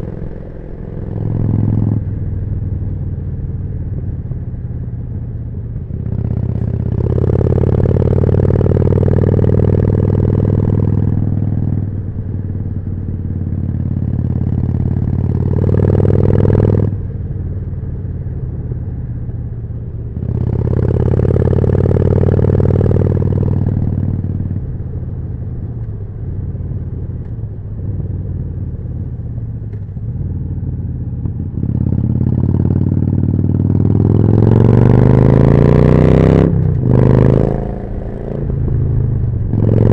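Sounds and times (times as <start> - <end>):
motorcycle engine revving: 0.0 - 3.4, 5.9 - 17.0, 20.1 - 39.9.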